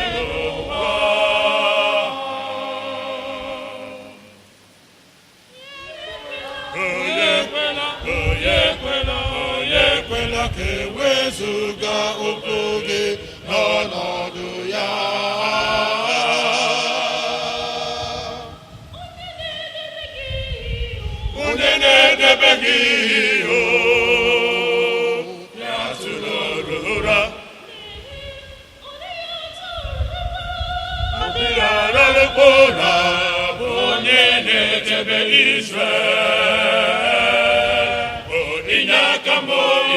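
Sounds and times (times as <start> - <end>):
church choir singing: 0.0 - 4.7, 5.6 - 39.9.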